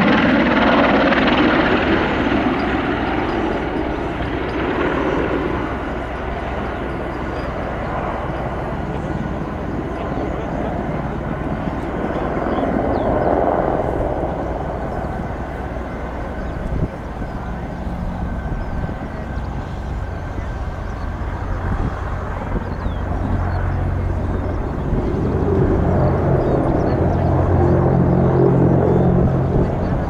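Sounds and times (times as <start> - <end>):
helicopter flying: 0.0 - 30.0.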